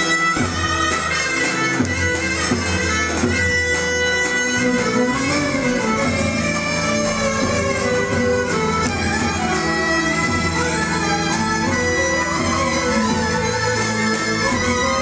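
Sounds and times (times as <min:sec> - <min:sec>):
shrill reed wind instrument: 0:00.0 - 0:15.0.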